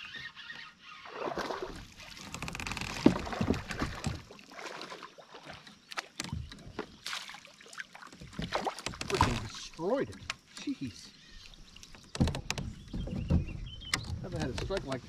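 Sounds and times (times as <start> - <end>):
water splashing beside kayak: 0.0 - 15.0.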